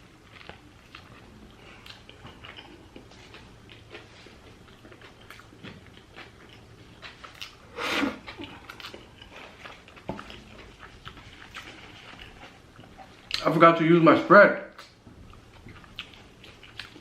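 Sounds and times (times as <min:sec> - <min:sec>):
person chewing food: 0:00.0 - 0:13.4, 0:14.8 - 0:17.0.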